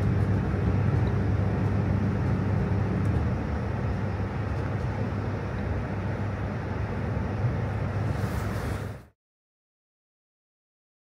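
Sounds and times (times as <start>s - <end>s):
train rumble inside carriage: 0.0s - 9.2s.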